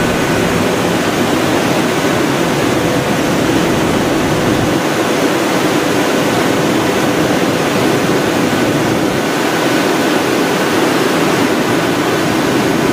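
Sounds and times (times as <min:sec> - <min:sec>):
aircraft roar: 0:00.0 - 0:12.9.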